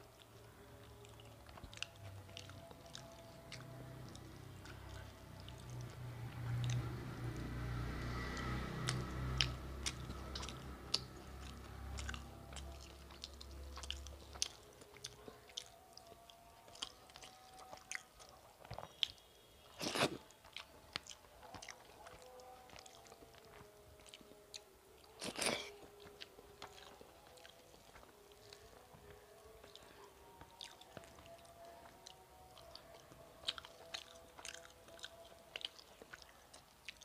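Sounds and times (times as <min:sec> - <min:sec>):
chewing mouth clicks and smacks: 0:00.8 - 0:06.8, 0:08.4 - 0:37.0.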